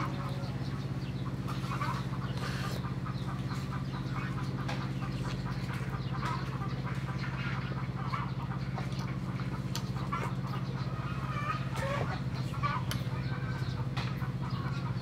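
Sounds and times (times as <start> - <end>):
ducks and chickens calling: 0.0 - 15.0
steady low hum: 0.0 - 15.0.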